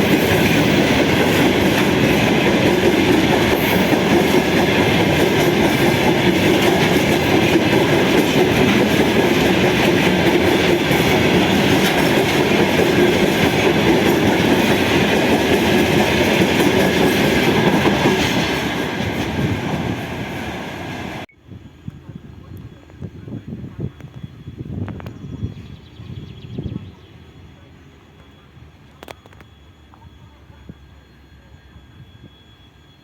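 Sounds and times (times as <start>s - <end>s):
train rolling on rails: 0.0s - 33.0s.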